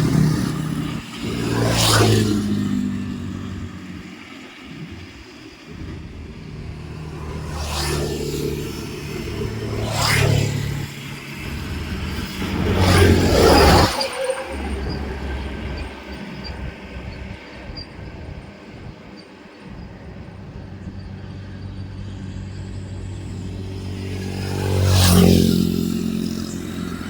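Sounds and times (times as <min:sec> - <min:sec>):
low engine hum: 0:00.0 - 0:27.0
vehicles passing by: 0:00.0 - 0:27.0.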